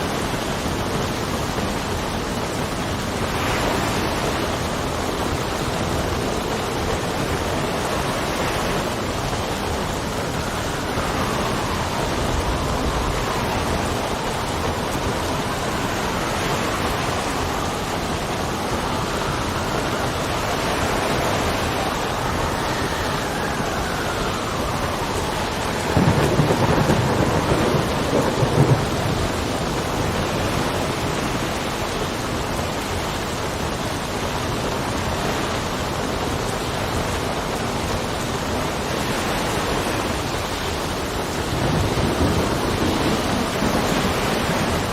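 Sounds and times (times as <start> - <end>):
thunder rolling: 0.0 - 33.0, 36.8 - 44.9
heavy rain: 0.0 - 44.9
wind howling: 0.0 - 44.9.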